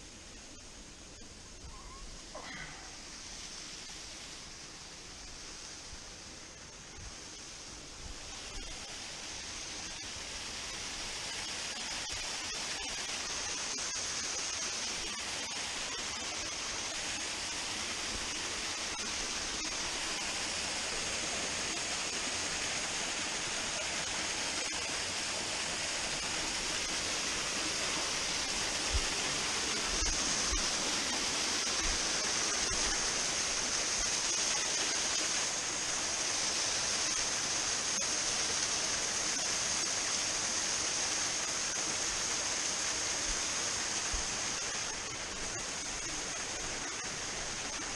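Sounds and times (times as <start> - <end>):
waterfall pouring over rocks: 0.0 - 47.9.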